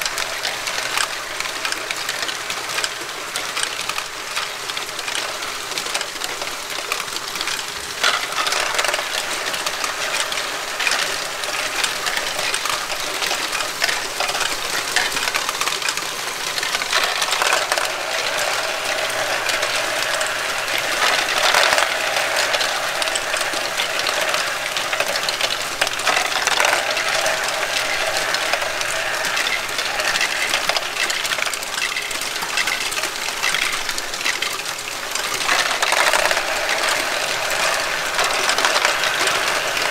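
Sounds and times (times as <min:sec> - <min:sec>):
plastic balls clattering and rolling: 0:00.0 - 0:39.9
toy motors and gears humming: 0:00.0 - 0:39.9.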